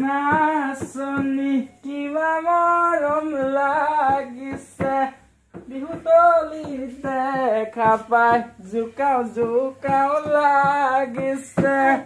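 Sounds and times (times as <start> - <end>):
person singing unaccompanied: 0.0 - 12.0.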